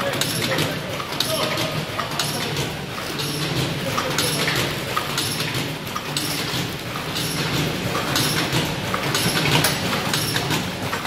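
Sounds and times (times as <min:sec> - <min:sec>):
machine clattering: 0:00.0 - 0:11.0
packaging machine humming: 0:00.0 - 0:11.0.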